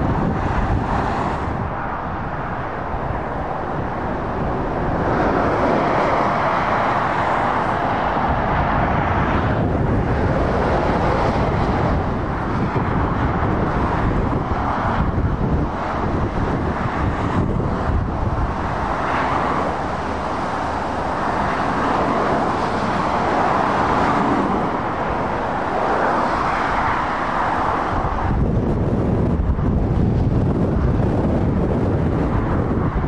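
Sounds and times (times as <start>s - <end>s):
lorries and cars driving past: 0.0s - 33.0s
wind rumble on microphone: 0.0s - 33.0s.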